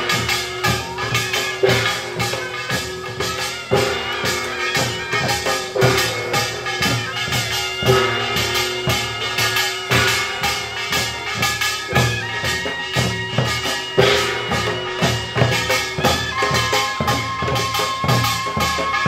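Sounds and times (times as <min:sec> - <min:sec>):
small gong clanging: 0:00.0 - 0:18.9
drums beating fast rhythm: 0:00.0 - 0:19.0.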